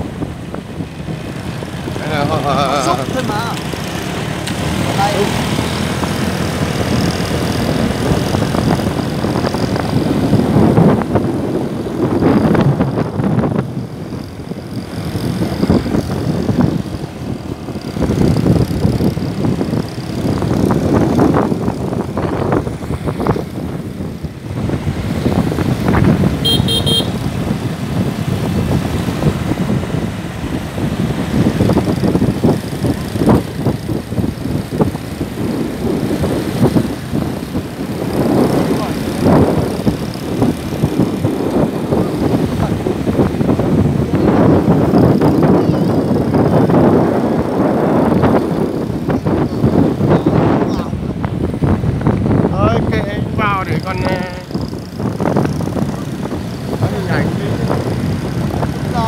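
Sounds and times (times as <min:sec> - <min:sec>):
road and wind noise: 0:00.0 - 0:59.0
motorbike engine running: 0:00.1 - 0:59.0.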